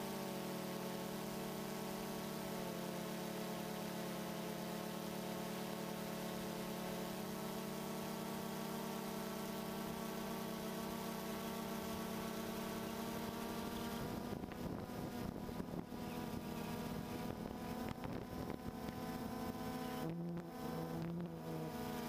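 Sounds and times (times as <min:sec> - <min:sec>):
quadcopter motors humming: 0:00.0 - 0:22.0.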